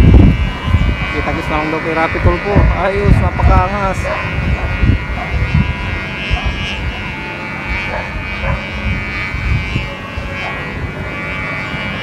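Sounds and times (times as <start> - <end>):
kite noisemaker buzzing: 0.0 - 12.0
wind rumbling on microphone: 0.0 - 12.0.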